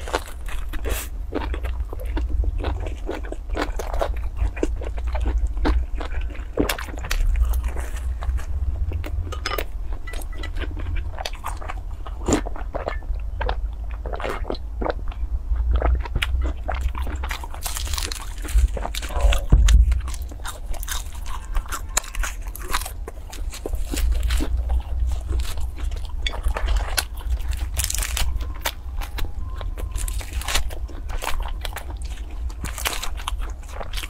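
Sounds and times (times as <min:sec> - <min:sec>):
crunching fried dough: 0:00.0 - 0:34.0.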